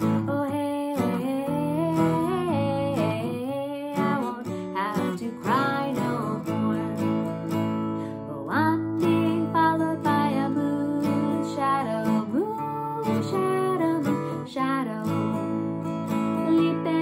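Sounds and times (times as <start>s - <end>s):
acoustic guitar strumming: 0.0s - 17.0s
woman singing: 0.0s - 17.0s.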